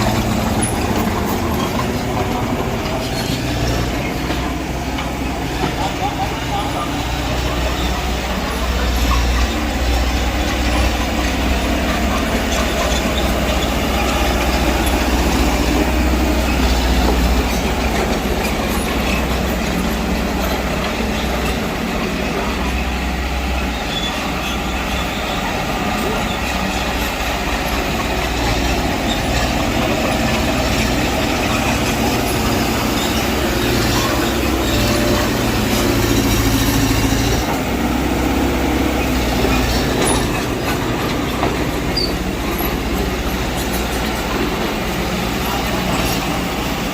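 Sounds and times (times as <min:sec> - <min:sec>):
diesel engine running: 0:00.0 - 0:46.9
metal track clanking: 0:00.0 - 0:46.9.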